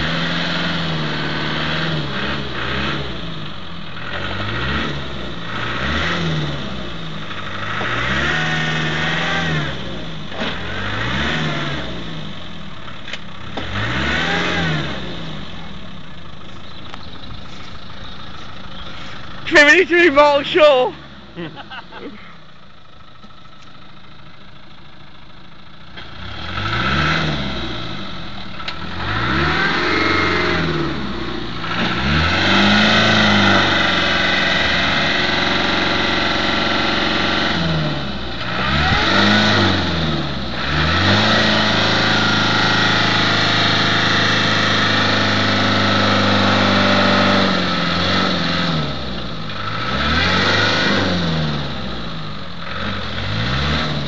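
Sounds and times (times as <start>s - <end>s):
car engine revving hard: 0.0s - 12.7s, 13.4s - 16.0s, 26.0s - 54.0s.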